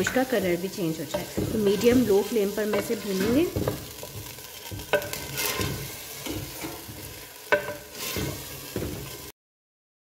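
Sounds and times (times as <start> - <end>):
meat sizzling in a pot: 0.0 - 9.3
wooden spatula stirring: 0.0 - 9.3.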